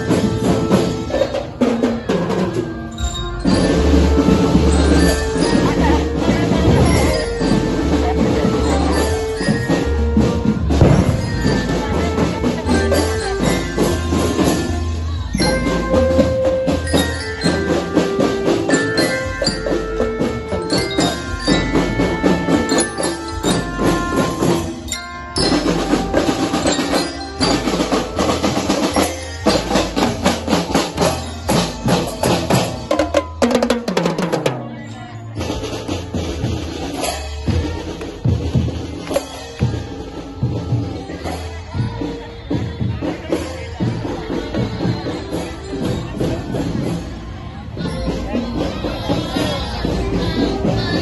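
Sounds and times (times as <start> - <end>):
drums keeping steady beat: 0.0 - 51.0
glockenspiel melody: 0.0 - 51.0
sharp percussion strikes: 0.0 - 51.0.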